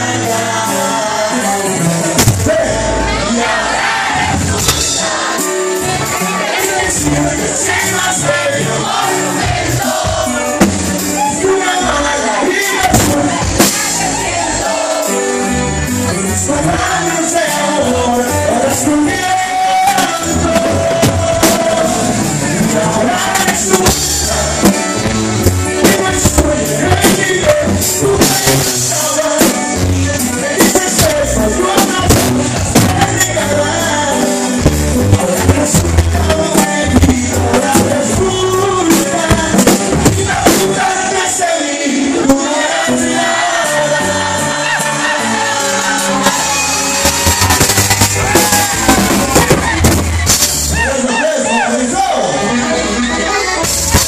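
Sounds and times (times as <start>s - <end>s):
man singing: 0.0s - 47.2s, 48.3s - 53.6s
accordion: 0.0s - 54.0s
drums: 0.0s - 54.0s
guitar: 0.0s - 54.0s.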